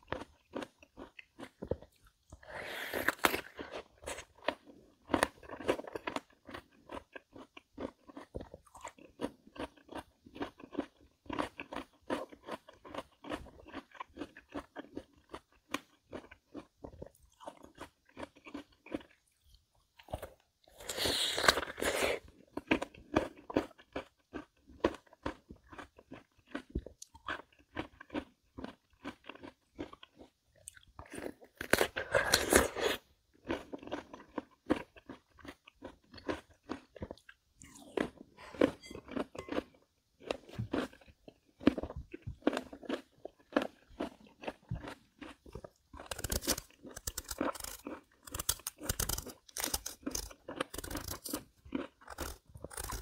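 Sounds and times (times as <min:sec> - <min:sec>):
person chewing crisp melon: 0:00.0 - 0:53.0.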